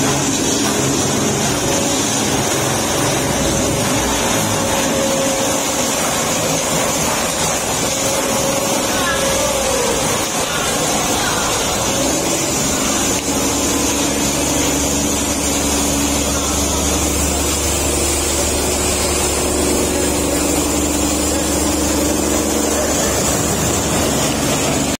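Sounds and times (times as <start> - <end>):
corn-stalk chopper whirring: 0.0 - 25.0.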